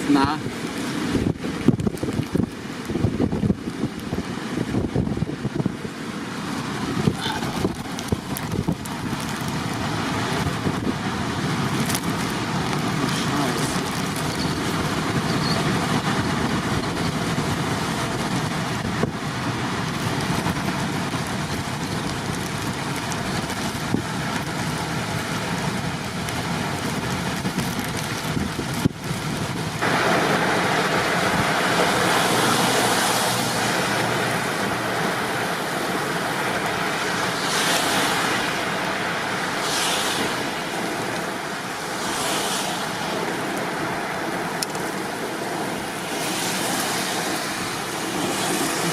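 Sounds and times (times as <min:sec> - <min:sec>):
road traffic noise: 0:00.0 - 0:48.9
storm wind rushing: 0:00.3 - 0:48.9.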